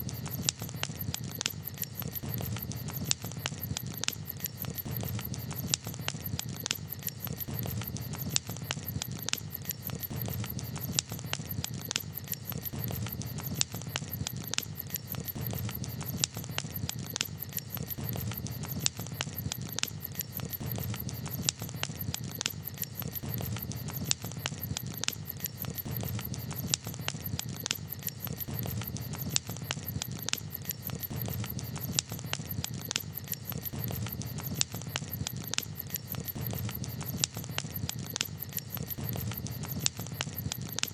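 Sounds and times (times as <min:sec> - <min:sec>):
campfire crackling and popping: 0:00.0 - 0:40.9
low rumble of burning fire: 0:00.0 - 0:40.9.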